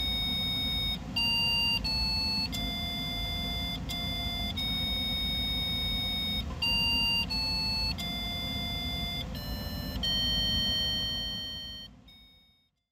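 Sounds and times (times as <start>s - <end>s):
slow electronic melody: 0.0s - 12.0s.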